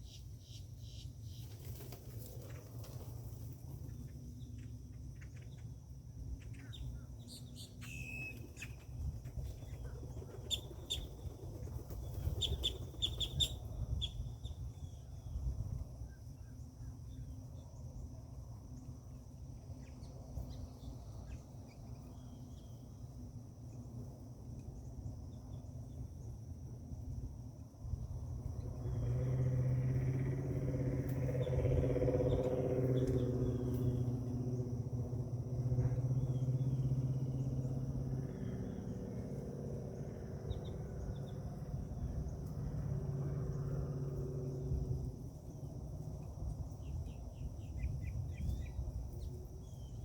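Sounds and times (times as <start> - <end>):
insect drone: 0.0 - 50.0
low mechanical hum: 0.0 - 50.0.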